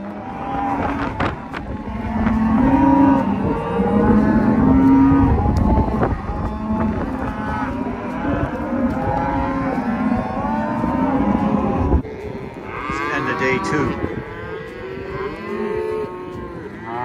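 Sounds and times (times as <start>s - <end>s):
cattle mooing and bawling: 0.0s - 17.0s
wind rumble on microphone: 0.0s - 17.0s.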